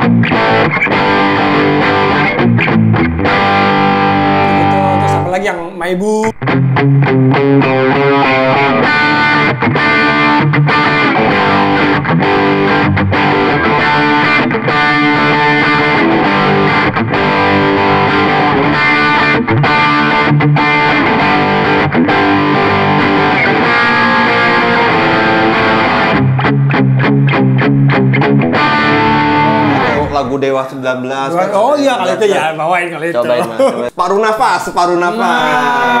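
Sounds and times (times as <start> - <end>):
overdriven electric guitar lead: 0.0 - 5.5, 6.2 - 30.2.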